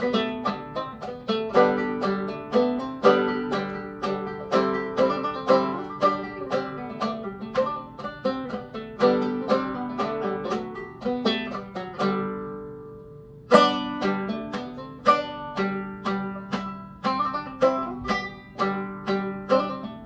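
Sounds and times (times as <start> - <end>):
banjo playing minuet melody: 0.0 - 20.0.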